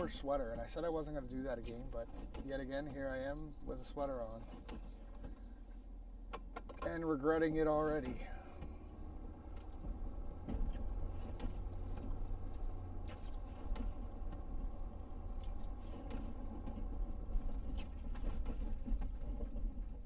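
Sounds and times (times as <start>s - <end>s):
light ticks and rattles: 0.0s - 20.0s
truck engine rumble: 0.0s - 20.0s.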